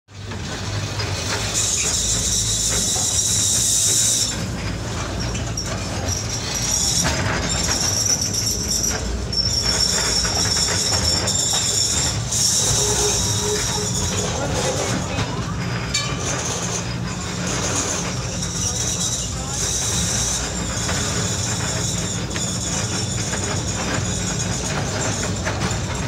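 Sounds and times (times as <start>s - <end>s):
funicular rumble: 0.1s - 26.0s
wheel squeal: 0.1s - 26.0s.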